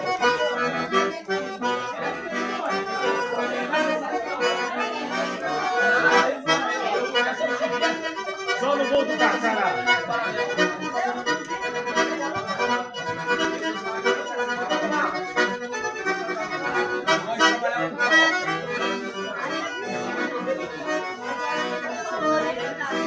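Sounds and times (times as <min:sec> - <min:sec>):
accordion playing lively tune: 0:00.0 - 0:23.0.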